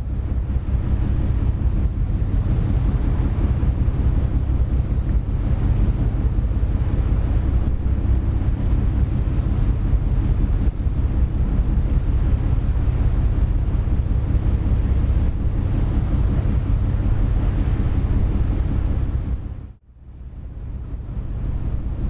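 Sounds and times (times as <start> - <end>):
ferry engine drone: 0.0 - 22.0
wind buffeting microphone: 0.0 - 22.0.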